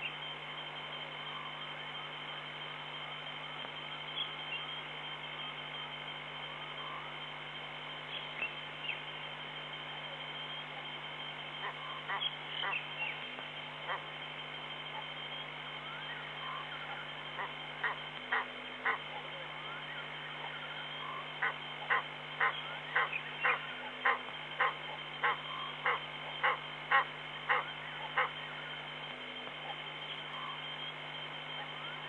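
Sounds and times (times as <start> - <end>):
frogs calling: 0.0 - 32.0
steady hum: 0.0 - 32.0.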